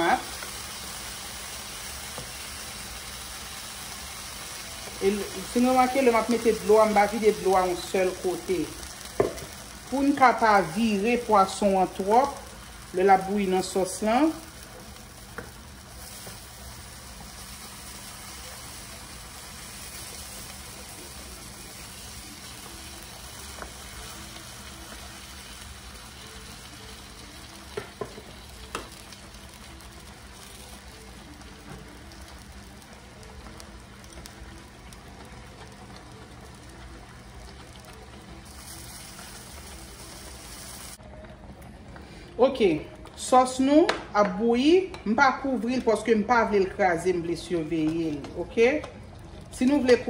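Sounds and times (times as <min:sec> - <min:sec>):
sauce simmering in a skillet: 0:00.0 - 0:41.1, 0:48.9 - 0:49.6.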